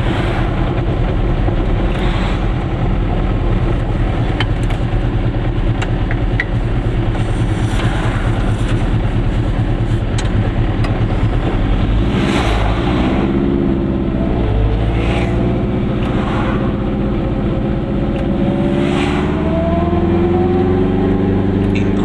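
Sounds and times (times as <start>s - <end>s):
rushes of noise: 0.0s - 22.0s
two-stroke car engine accelerating: 0.0s - 22.0s.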